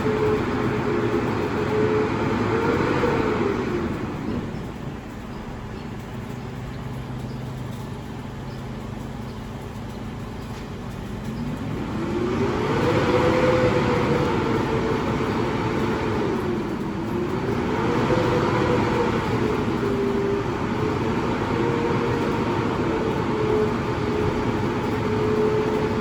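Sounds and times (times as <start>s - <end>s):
garbage truck diesel engine revving: 0.0s - 26.0s.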